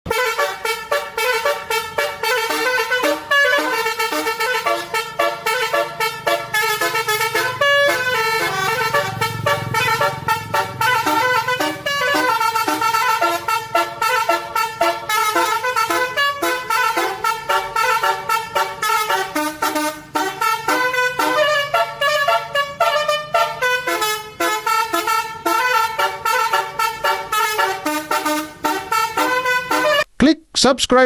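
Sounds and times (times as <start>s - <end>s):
bus musical horn melody: 0.1s - 30.1s.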